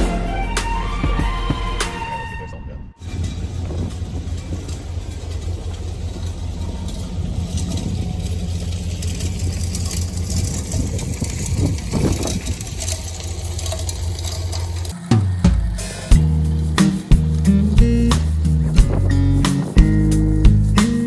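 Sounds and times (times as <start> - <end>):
road noise: 0.0 - 21.0
truck engine running: 3.0 - 21.0.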